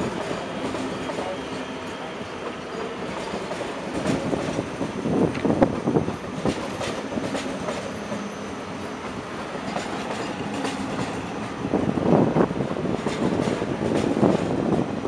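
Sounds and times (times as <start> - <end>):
train wheels rumbling and clicking: 0.0 - 15.0.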